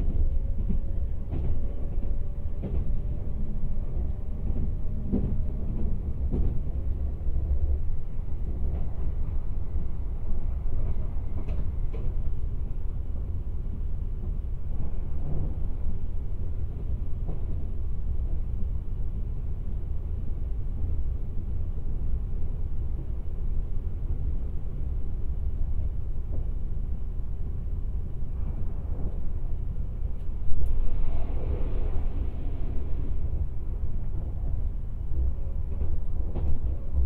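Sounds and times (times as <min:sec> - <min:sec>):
train rumbling inside cabin: 0:00.0 - 0:37.0.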